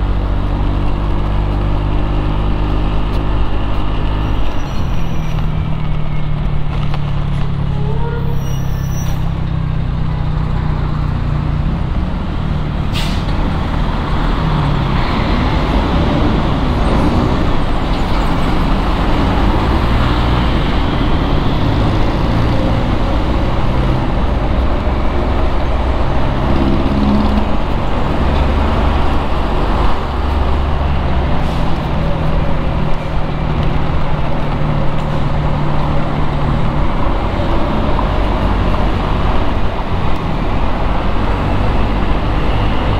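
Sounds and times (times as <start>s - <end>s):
street traffic: 0.0s - 42.9s.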